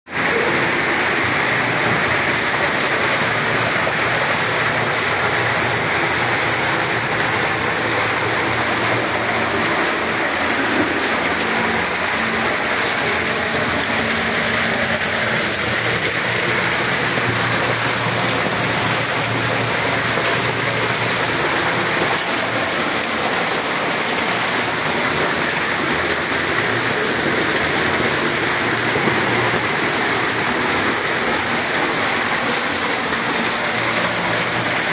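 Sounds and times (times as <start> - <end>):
small waterfall splashing: 0.1 - 34.9.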